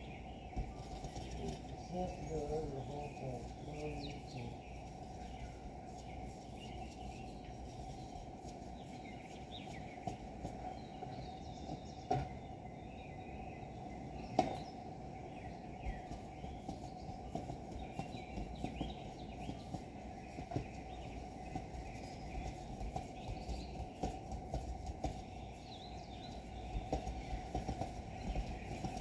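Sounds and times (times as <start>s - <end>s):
bird chirps: 0.0s - 29.0s
steady low hiss: 0.0s - 29.0s.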